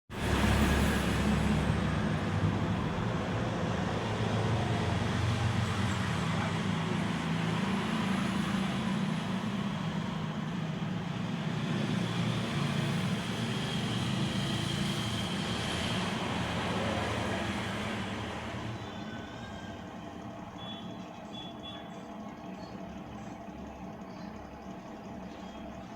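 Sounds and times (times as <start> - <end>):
fan motor hum: 0.1 - 25.9.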